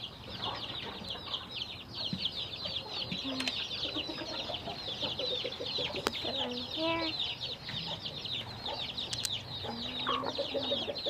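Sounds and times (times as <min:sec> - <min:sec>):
baby chicks peeping: 0:00.0 - 0:11.0
hen clucking: 0:00.3 - 0:11.0.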